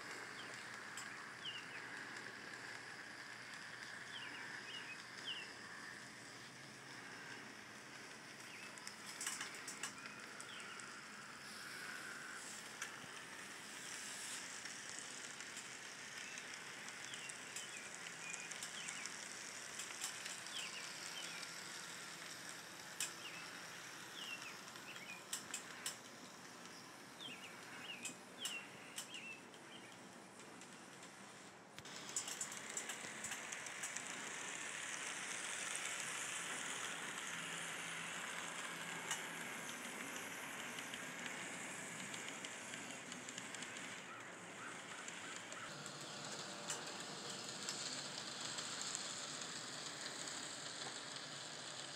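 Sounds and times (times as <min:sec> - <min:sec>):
steady background hiss: 0:00.0 - 0:51.9
sharp clicks: 0:00.1 - 0:22.4, 0:23.0 - 0:31.2, 0:31.8 - 0:50.9.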